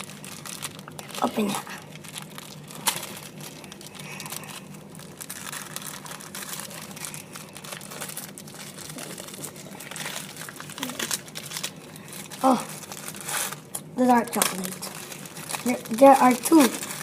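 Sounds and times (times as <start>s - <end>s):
plastic wrapper crinkling and tearing: 0.0s - 17.0s.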